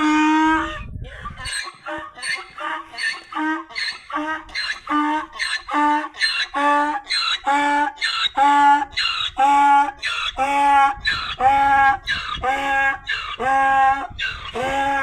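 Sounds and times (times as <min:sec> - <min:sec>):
donkey braying: 0:00.0 - 0:15.0.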